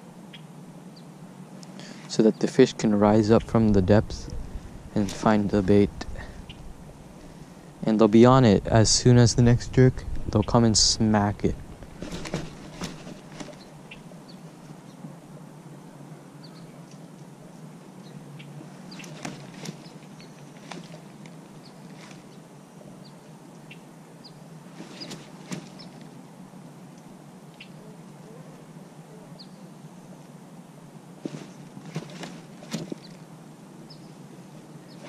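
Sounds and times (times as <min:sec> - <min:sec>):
steady low hiss: 0:00.0 - 0:35.0.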